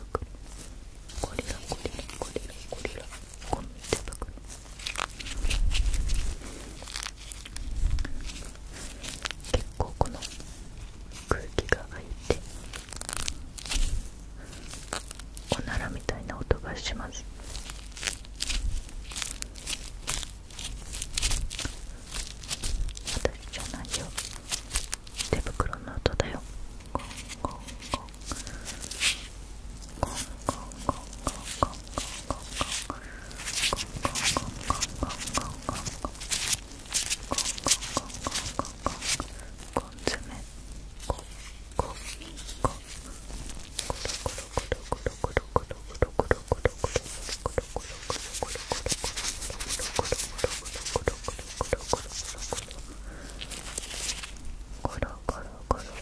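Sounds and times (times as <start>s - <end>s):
gloves rubbing together: 0.0s - 56.0s
rubber gloves clicking: 1.4s - 10.5s, 12.3s - 13.9s, 17.5s - 25.5s, 26.8s - 40.2s, 40.9s - 55.0s.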